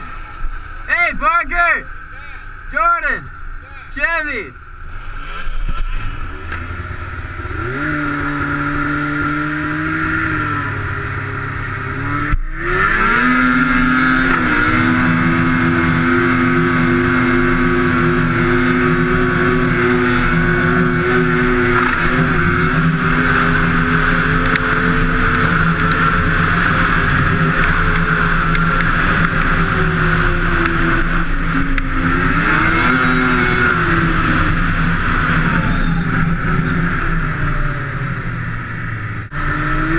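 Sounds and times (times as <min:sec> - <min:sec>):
snowmobile engine at high revs: 0:00.0 - 0:39.9.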